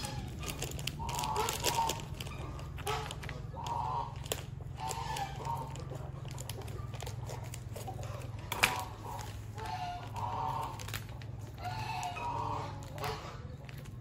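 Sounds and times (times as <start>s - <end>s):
paper bag rustling: 0.0s - 12.2s
poultry honking: 0.0s - 14.0s.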